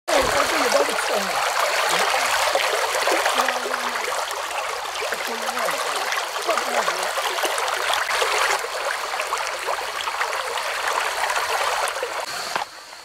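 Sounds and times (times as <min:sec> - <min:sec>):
stream running over pebbles: 0:00.1 - 0:12.8.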